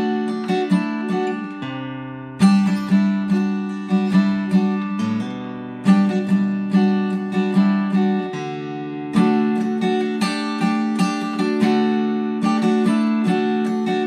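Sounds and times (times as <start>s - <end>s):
acoustic guitar plucked notes: 0.0s - 14.0s.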